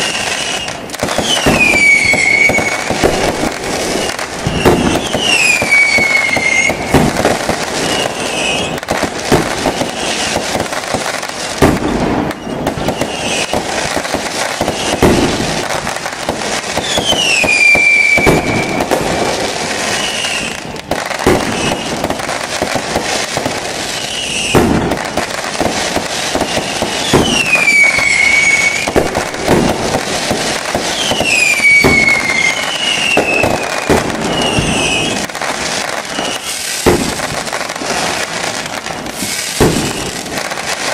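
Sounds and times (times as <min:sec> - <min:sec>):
falling fireworks whistles: 0:00.0 - 0:40.9
fireworks bangs and crackling: 0:00.0 - 0:40.9.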